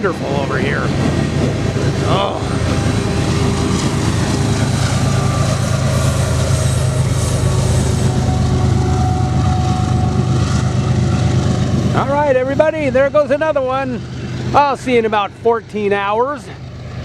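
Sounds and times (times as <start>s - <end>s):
freight train wheels rumbling on track: 0.0s - 17.0s.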